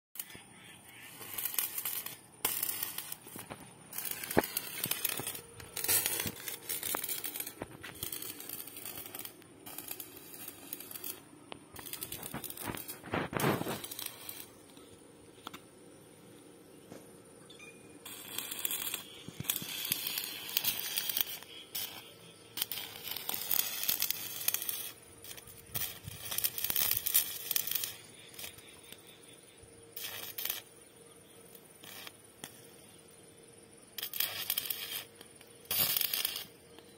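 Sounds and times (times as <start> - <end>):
welding arc crackling and sizzling: 0.2 - 15.7, 18.0 - 32.9, 33.8 - 36.9.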